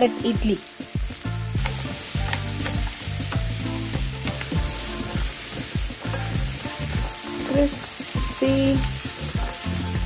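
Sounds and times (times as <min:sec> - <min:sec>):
food sizzling in oil: 0:00.0 - 0:10.0
spatula scraping a pan: 0:01.5 - 0:10.0.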